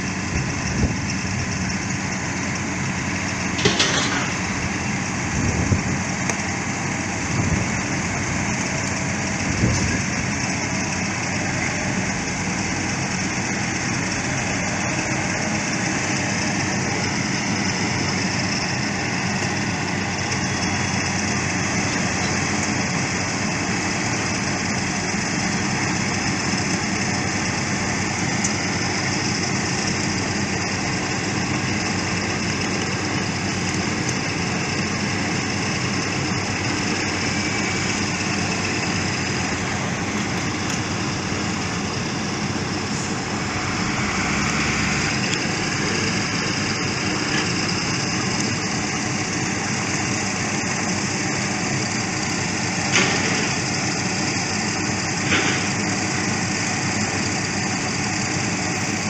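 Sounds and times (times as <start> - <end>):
construction machinery engines running: 0.0 - 59.0.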